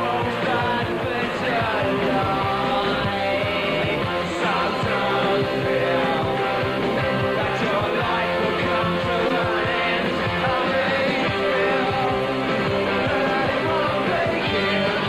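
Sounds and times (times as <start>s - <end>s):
rock song: 0.0s - 15.0s
steady drum beat: 0.0s - 15.0s
sustained guitar chords: 0.0s - 15.0s.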